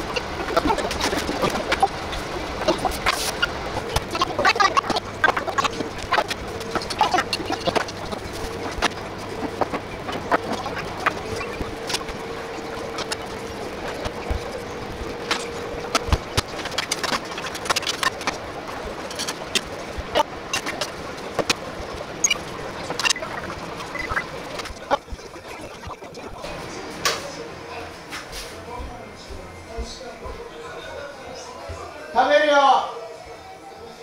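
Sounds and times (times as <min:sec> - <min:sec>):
steady hum: 0:00.0 - 0:32.1.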